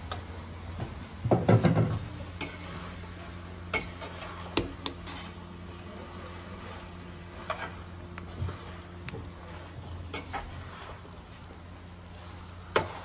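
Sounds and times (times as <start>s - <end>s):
steady low hum: 0.0s - 13.0s
metal spatula scraping a wok: 2.3s - 13.0s.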